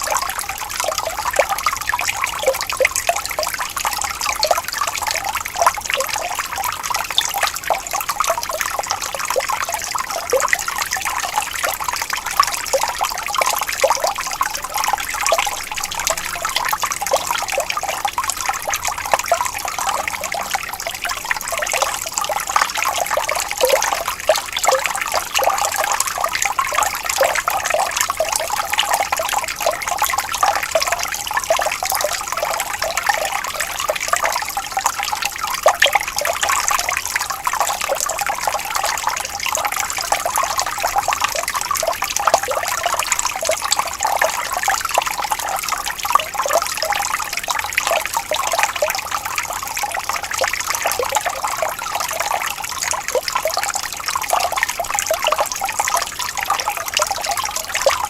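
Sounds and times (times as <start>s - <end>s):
shallow water trickling: 0.0s - 58.0s.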